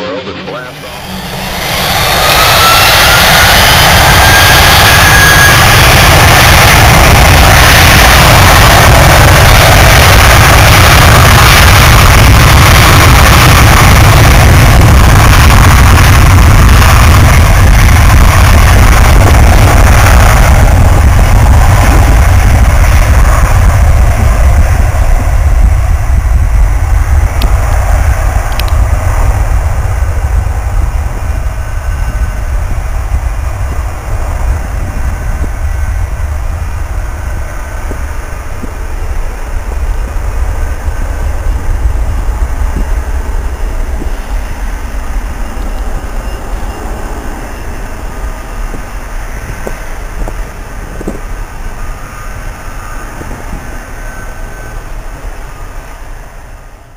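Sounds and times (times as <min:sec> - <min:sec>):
jet engines roaring at takeoff: 0:00.0 - 0:56.9.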